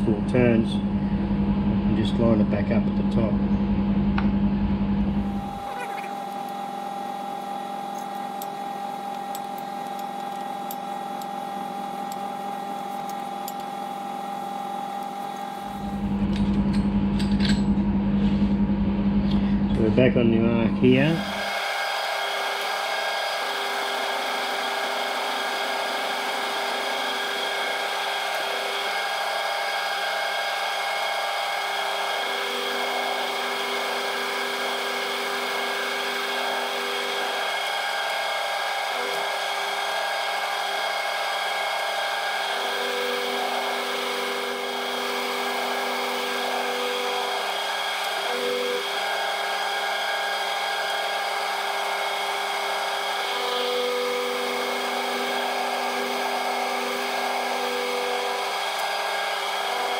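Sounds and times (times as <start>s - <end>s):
low machine tones: 0.0s - 59.9s
milling machine whine: 0.0s - 59.9s.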